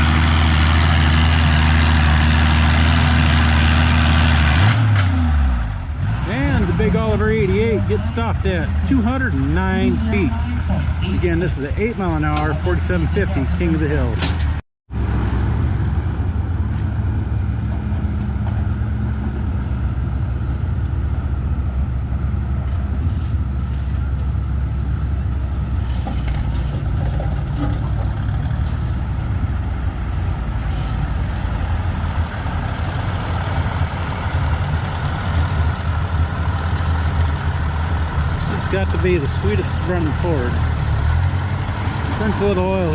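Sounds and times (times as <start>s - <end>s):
tractor engine purring: 0.0s - 42.9s.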